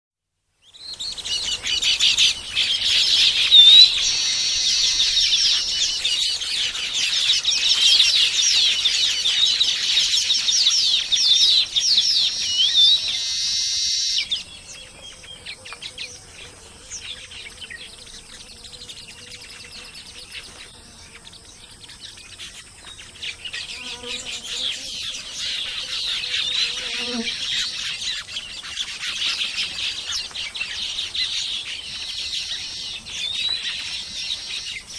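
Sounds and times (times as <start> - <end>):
birds chattering and chirping: 0.6 - 34.9.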